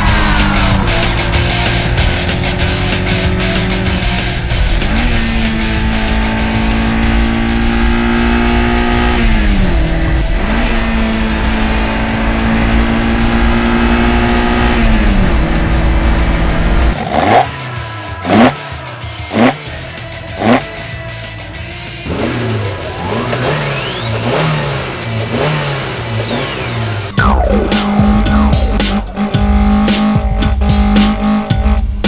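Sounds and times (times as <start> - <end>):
engine throttle blips: 0.0 - 17.5, 22.1 - 32.0
car engine revving: 0.0 - 32.0.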